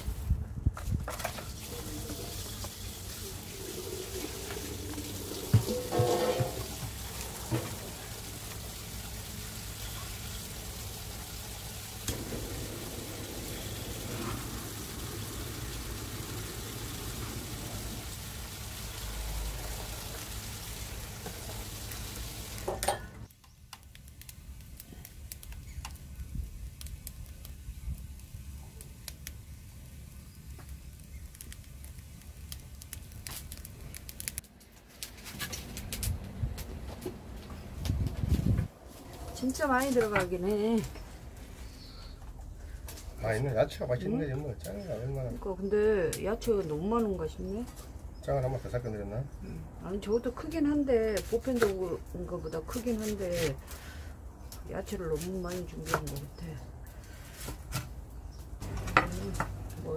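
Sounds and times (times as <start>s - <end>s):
fire crackling: 0.0s - 59.9s
firewood fire hissing: 0.0s - 59.9s.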